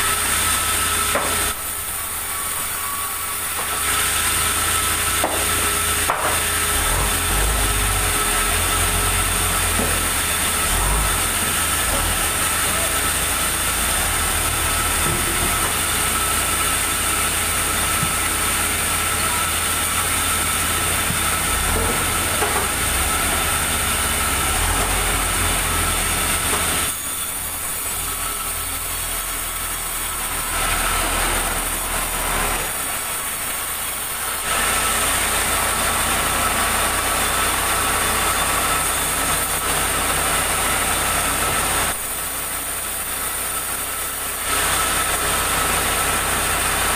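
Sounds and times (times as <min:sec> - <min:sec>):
sawmill machinery whining: 0:00.0 - 0:46.9.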